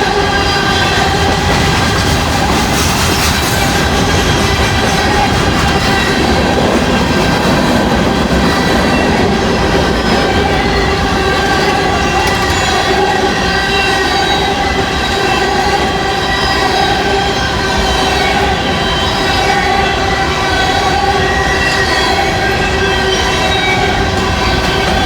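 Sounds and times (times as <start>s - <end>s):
train wheels rumbling on rails: 0.0s - 25.0s
wheels squealing: 0.0s - 25.0s.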